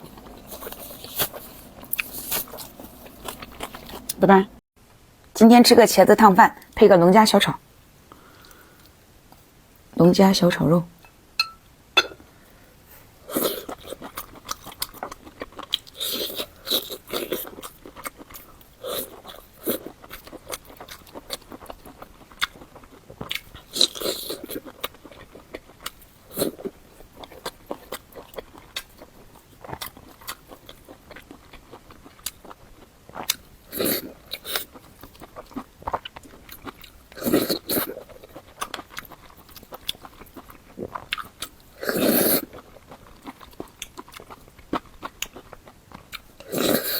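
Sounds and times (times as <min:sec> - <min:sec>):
person chewing food: 0:00.0 - 0:04.2, 0:13.2 - 0:46.9.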